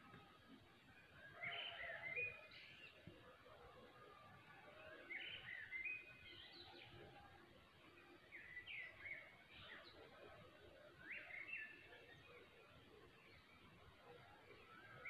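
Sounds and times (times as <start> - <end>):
faint songbird singing: 0.0 - 15.0.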